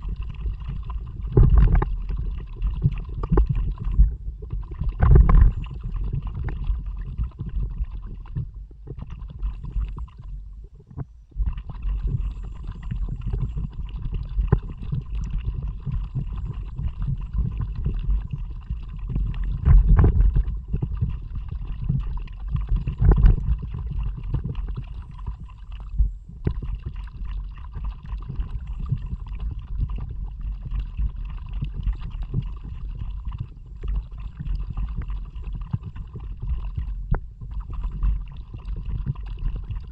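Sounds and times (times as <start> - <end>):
wind and water buffeting mic: 0.0 - 39.9.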